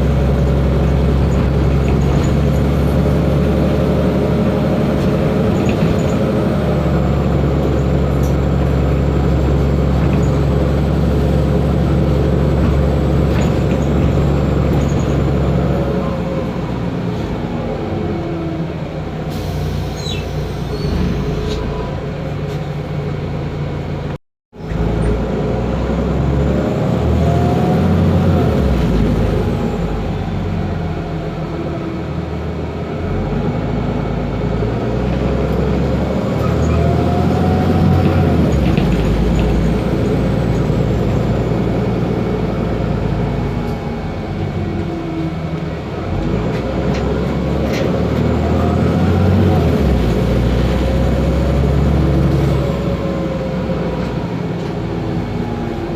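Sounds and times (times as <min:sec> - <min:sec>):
bus diesel engine running: 0:00.0 - 0:55.9.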